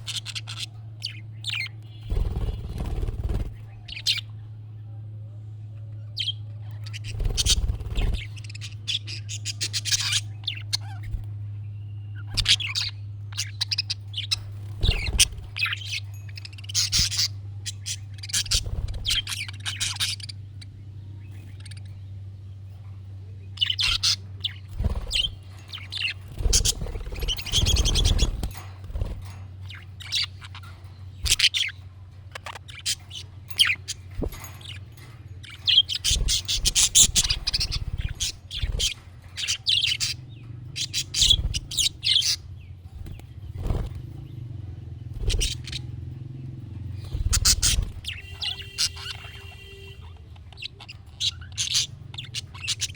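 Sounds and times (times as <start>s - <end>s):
budgerigar chattering and warbling: 0.0s - 4.3s, 6.2s - 11.2s, 12.2s - 20.7s, 23.5s - 42.5s, 45.1s - 46.0s, 47.0s - 52.9s
steady low hum: 0.0s - 50.1s.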